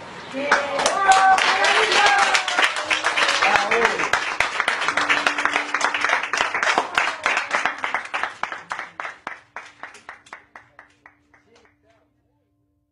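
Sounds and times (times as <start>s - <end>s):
audience applauding: 0.5s - 11.8s.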